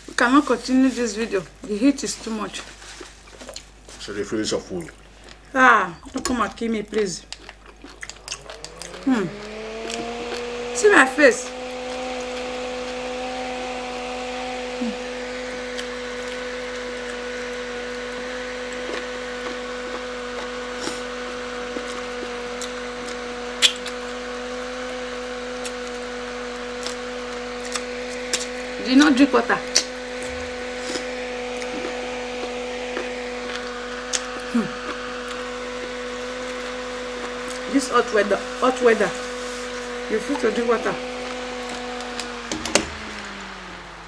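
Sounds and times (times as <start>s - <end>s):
handheld fan humming: 0.0s - 44.0s.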